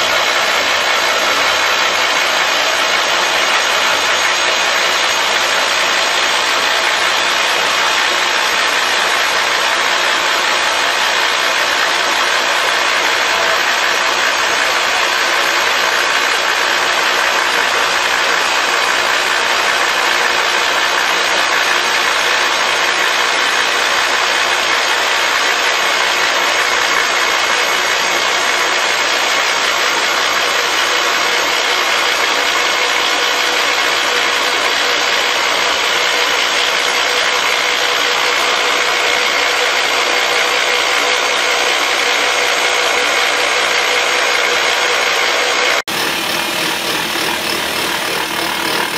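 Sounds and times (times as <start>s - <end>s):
rock drill boring into rock: 0.0s - 48.9s.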